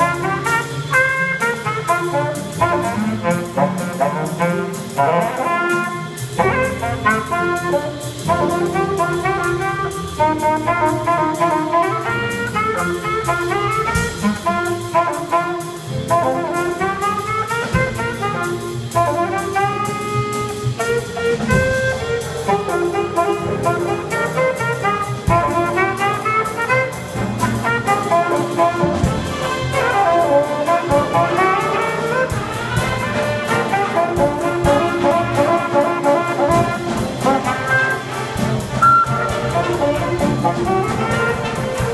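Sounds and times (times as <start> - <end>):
jazz band playing: 0.0 - 41.9.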